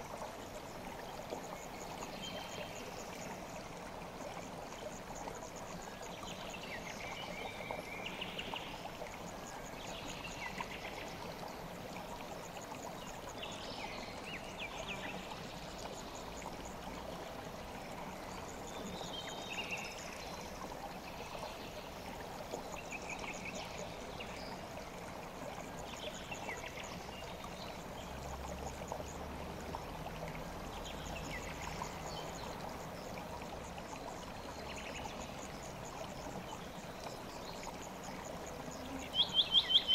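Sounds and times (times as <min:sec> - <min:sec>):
river stream flowing: 0:00.0 - 0:39.9.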